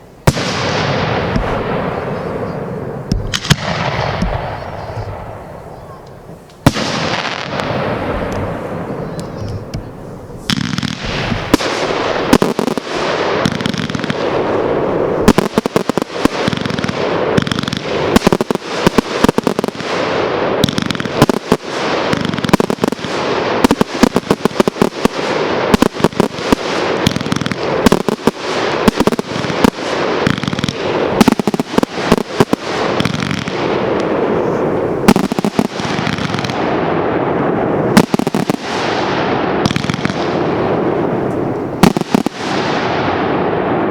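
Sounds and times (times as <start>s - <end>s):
fireworks bursting and crackling: 0.0s - 43.9s.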